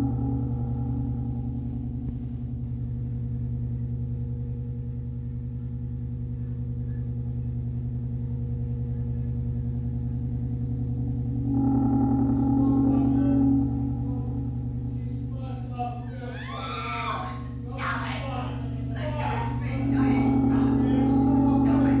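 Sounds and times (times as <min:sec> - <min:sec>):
low pulsing drone: 0:00.0 - 0:22.0.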